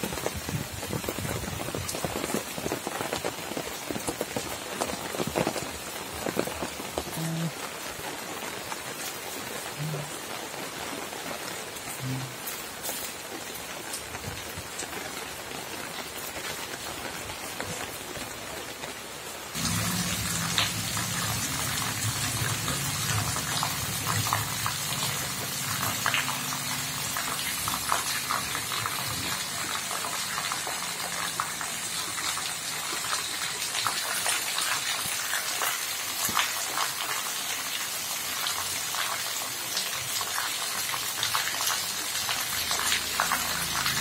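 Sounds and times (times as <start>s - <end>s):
heavy rain pouring: 0.0s - 44.0s
runoff splashing into puddles: 0.0s - 44.0s.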